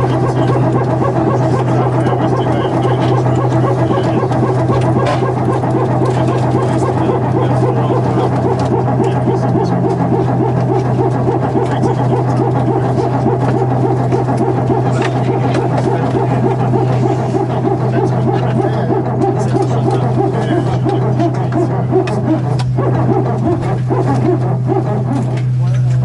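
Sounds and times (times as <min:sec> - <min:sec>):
hydraulic pump humming and buzzing: 0:00.0 - 0:26.0.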